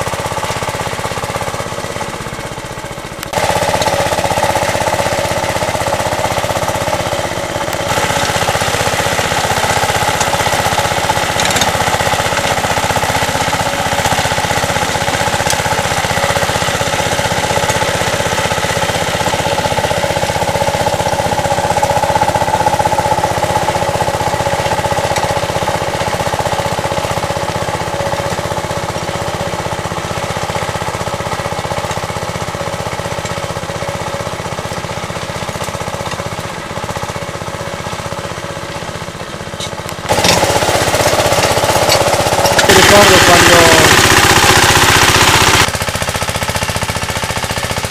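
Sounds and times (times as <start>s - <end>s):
small tractor engine rattling: 0.0s - 47.9s.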